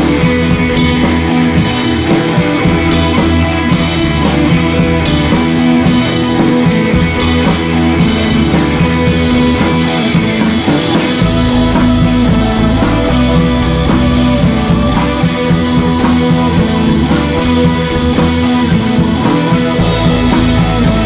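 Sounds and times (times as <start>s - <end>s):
music with guitar and drums: 0.0s - 21.0s.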